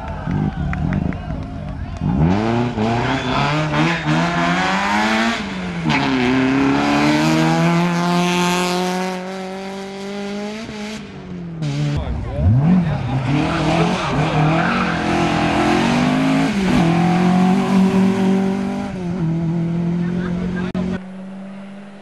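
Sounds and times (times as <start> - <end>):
rally car engine accelerating: 0.1 - 22.0.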